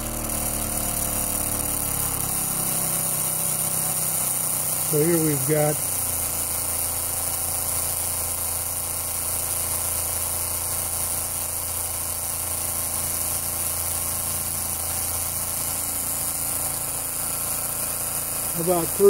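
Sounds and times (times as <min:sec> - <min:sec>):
submersible pump humming: 0:00.0 - 0:19.0.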